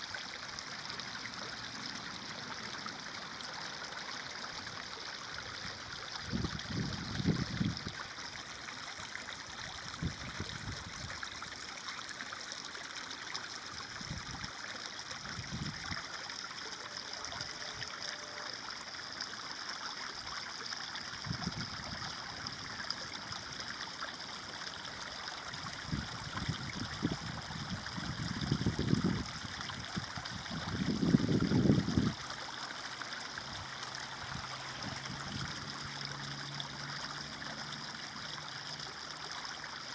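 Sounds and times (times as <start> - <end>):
low water surges: 0.0 - 39.9
stream water trickling: 0.0 - 39.9.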